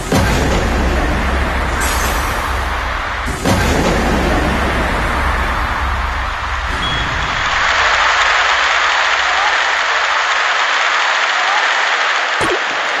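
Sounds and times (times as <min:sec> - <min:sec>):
crowd applauding and cheering: 0:00.0 - 0:13.0.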